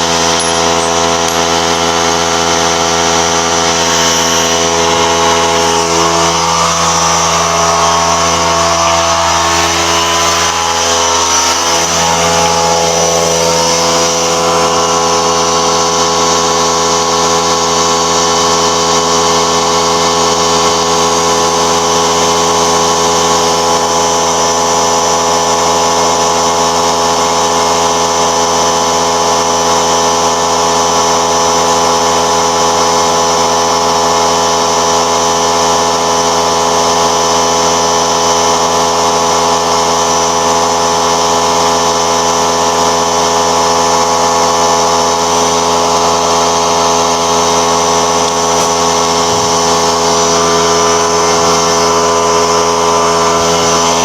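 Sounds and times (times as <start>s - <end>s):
power tool motor running: 0.0s - 54.0s.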